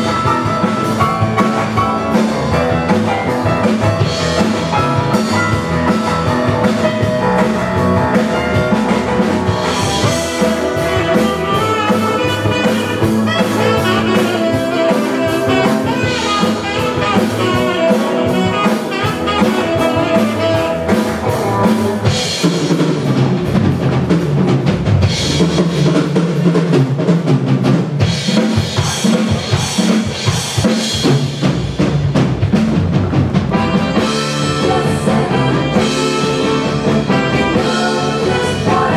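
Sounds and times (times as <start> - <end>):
drum kit beat: 0.0 - 38.9
upbeat live band music: 0.0 - 38.9.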